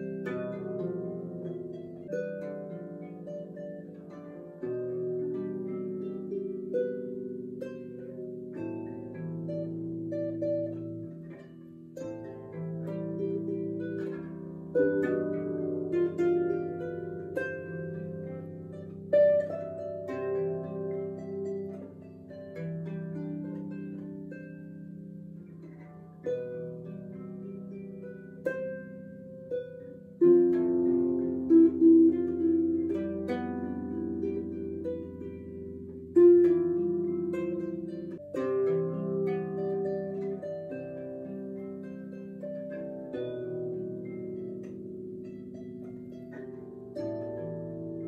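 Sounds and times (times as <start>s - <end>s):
plucked harp: 0.0s - 48.0s.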